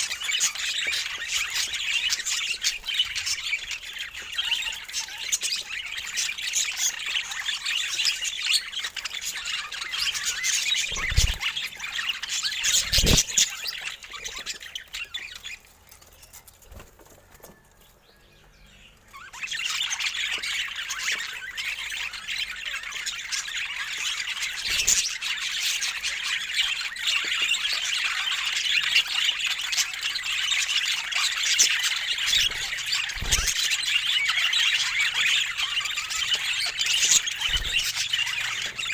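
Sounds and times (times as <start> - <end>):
budgerigars chattering and chirping: 0.0 - 16.2, 17.5 - 38.9.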